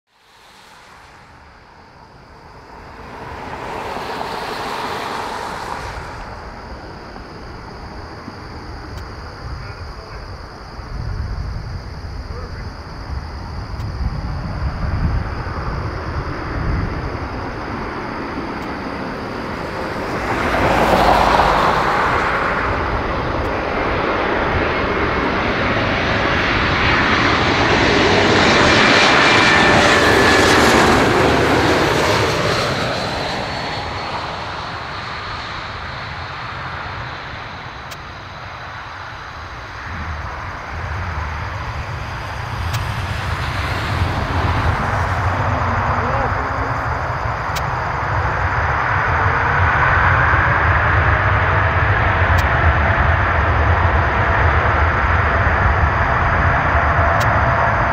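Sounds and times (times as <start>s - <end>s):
jet airliner passing overhead: 0.1s - 57.9s.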